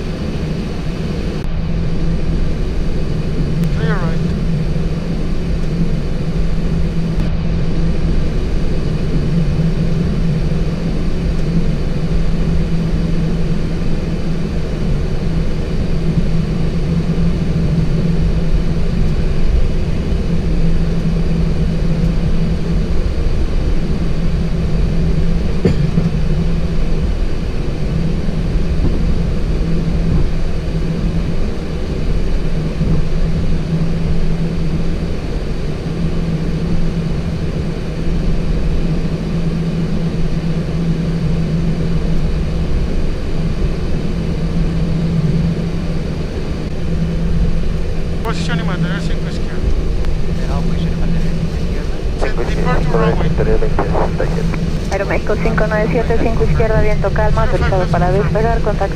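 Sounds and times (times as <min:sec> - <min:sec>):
jet engines idling low rumble: 0:00.0 - 0:58.9
steady low hum: 0:00.0 - 0:58.9.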